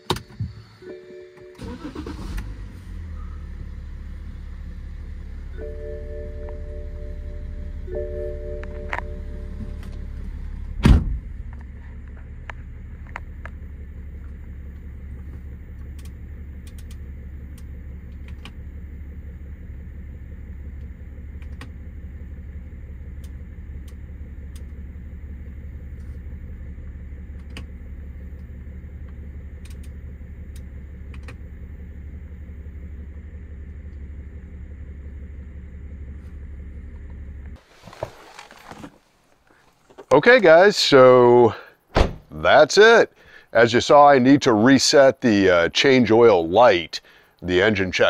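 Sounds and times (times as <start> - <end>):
diesel engine starting and idling: 0.0 - 48.0.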